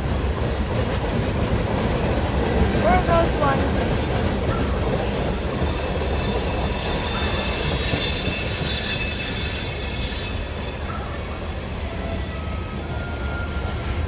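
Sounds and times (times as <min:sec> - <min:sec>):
freight cars rumbling on rails: 0:00.0 - 0:14.0
wheel squeal: 0:00.9 - 0:14.0.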